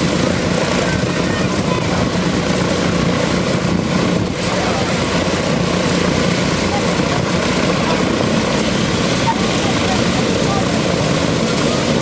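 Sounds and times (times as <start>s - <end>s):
radial aircraft engines running: 0.0s - 12.0s.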